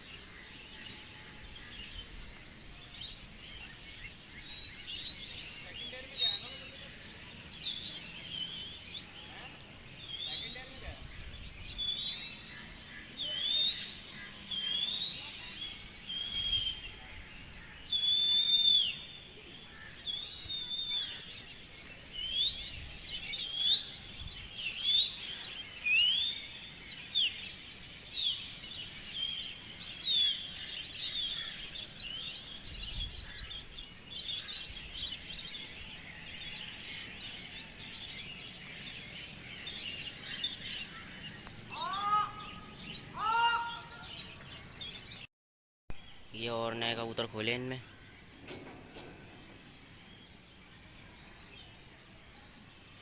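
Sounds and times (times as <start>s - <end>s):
birds chirping and whistling: 0.0s - 45.3s, 46.4s - 53.0s.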